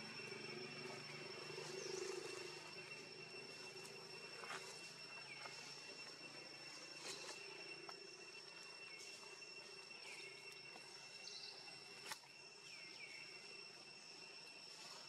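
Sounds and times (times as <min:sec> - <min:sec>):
insect trilling: 0:00.0 - 0:15.0.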